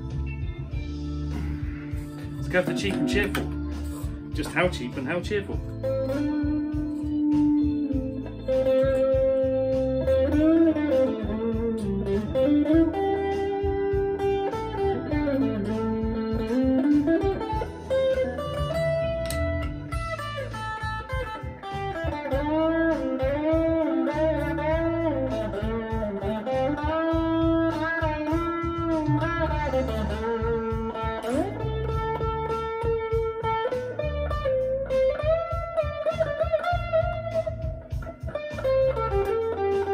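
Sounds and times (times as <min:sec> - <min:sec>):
backing track with drums and bass: 0:00.0 - 0:39.9
electric guitar lead melody: 0:00.0 - 0:39.9.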